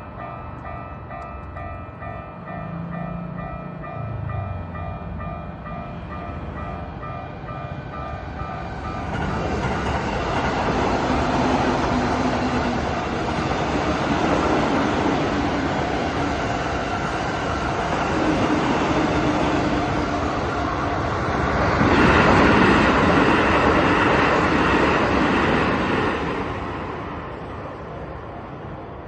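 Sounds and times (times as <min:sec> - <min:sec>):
train wheels rolling on rails: 0:00.0 - 0:29.0.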